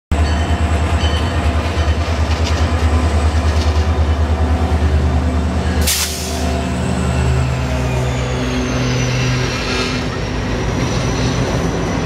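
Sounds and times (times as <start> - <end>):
diesel locomotive passing: 0.1 - 12.0.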